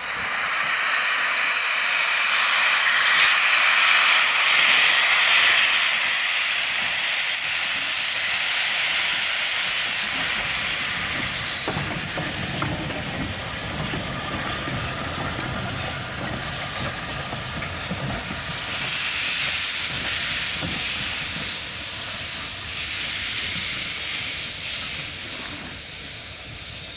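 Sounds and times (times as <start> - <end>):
steam locomotive hissing: 0.0 - 26.9
train rumbling over rails: 0.0 - 26.9.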